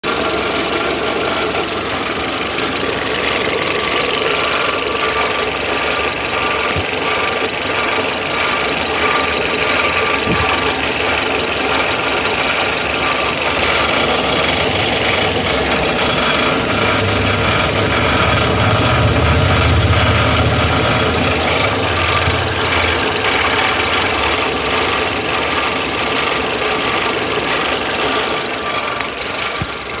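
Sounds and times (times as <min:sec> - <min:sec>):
continuous mechanical noise: 0:00.0 - 0:30.0
deep hum: 0:01.7 - 0:27.7.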